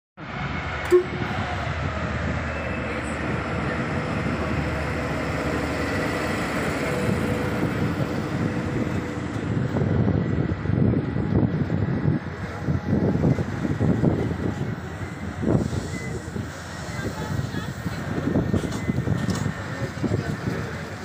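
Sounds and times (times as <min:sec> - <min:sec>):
diesel locomotive engine: 0:00.2 - 0:21.0
train wagons rumbling on rails: 0:00.2 - 0:21.0.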